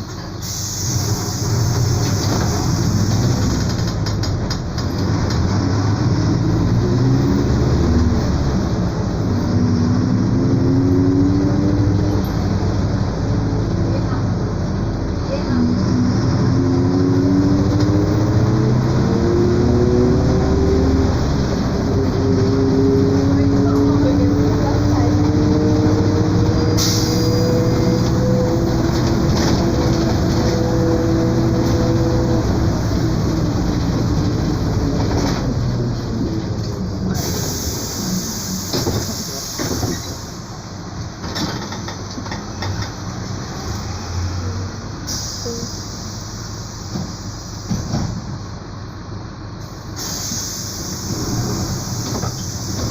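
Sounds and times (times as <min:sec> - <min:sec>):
bus differential whine: 0:00.0 - 0:52.9.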